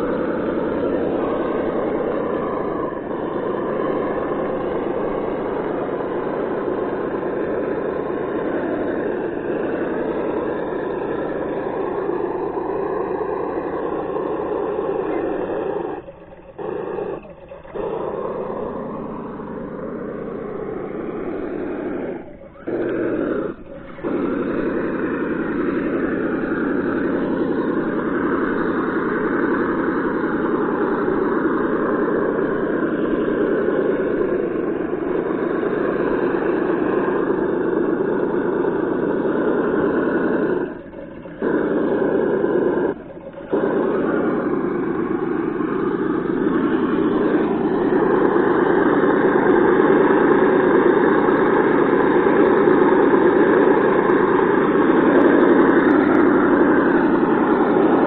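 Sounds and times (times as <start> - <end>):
simulated engine drone from speaker: 0.0 - 58.0.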